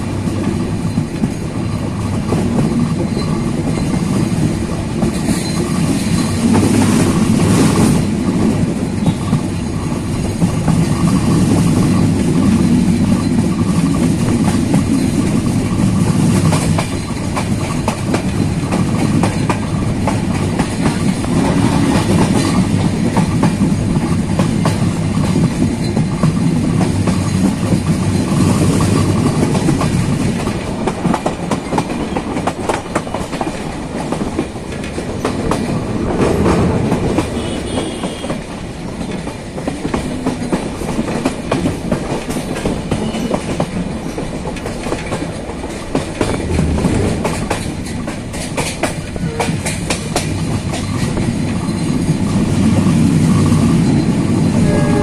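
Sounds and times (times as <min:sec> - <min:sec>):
rail joints clickety-clack: 0:00.0 - 0:55.0
train wheels rumbling on rail: 0:00.0 - 0:55.0.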